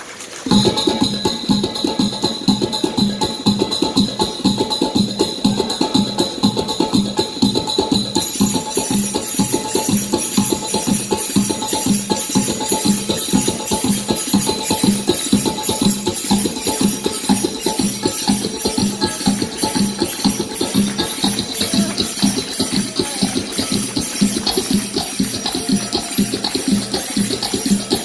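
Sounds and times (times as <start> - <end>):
dance music: 0.5 - 28.0
jingling percussion: 0.5 - 28.0.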